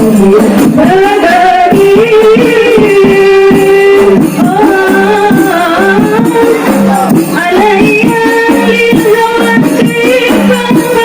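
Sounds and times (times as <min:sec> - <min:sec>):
frame drums beating: 0:00.0 - 0:11.0
person singing melody: 0:00.0 - 0:11.0.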